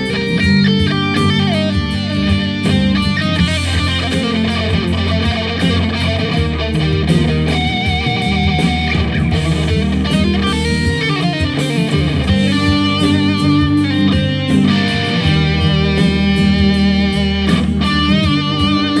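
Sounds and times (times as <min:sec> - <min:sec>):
electric guitar lead line: 0:00.0 - 0:19.0
steady low guitar notes: 0:00.0 - 0:19.0.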